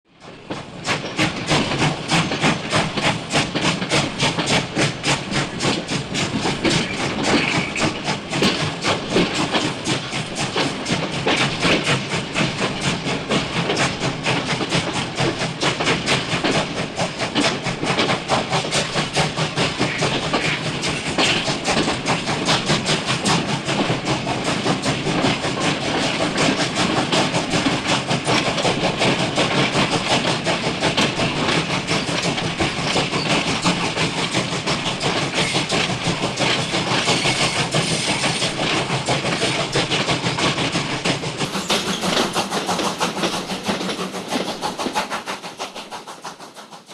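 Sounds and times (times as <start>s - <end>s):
steam locomotive chuffing: 0.1s - 46.9s.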